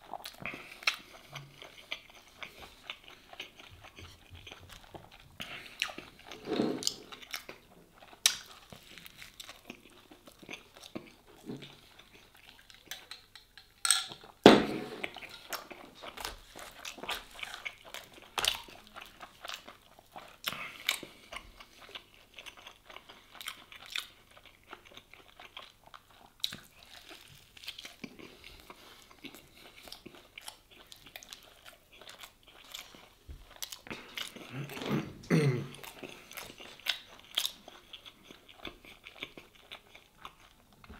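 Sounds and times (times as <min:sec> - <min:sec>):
person chewing crunchy sandwich: 0:00.0 - 0:13.6, 0:14.2 - 0:40.9.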